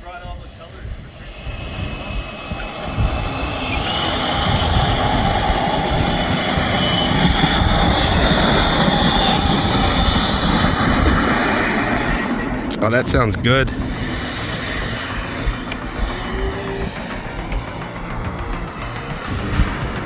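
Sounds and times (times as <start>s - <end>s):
model jet fans whining: 0.0s - 20.0s.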